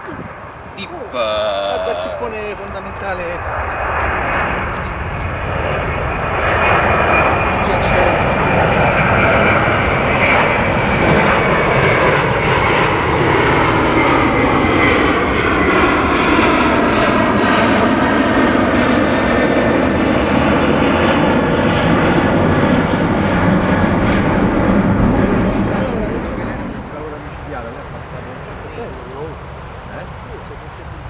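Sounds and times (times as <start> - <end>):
high engine whine: 0.0 - 31.0
jet engines roaring: 0.0 - 31.0.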